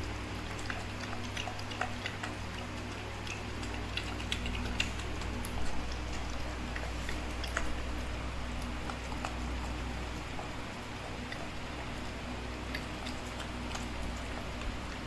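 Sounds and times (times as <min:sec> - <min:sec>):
dog eating crunches: 0:00.0 - 0:15.0
steady low hum: 0:00.0 - 0:15.0.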